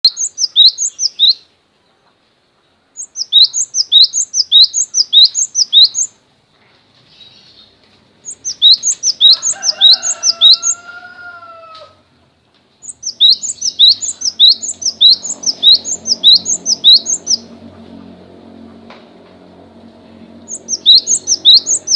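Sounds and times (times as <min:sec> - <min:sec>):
songbird chirping: 0:00.0 - 0:21.9.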